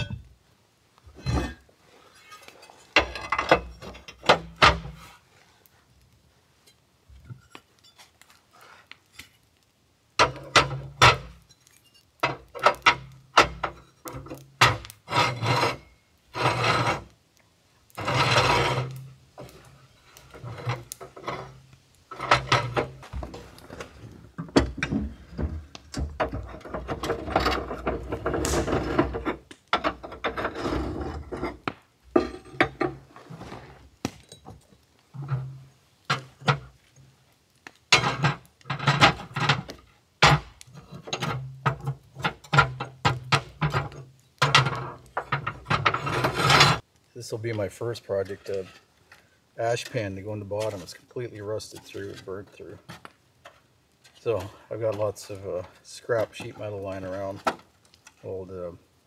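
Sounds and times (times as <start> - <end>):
rusted metal scraping and knocking: 0.0 - 0.4, 1.1 - 5.2, 6.6 - 9.4, 10.2 - 17.1, 17.9 - 46.8, 48.1 - 58.4.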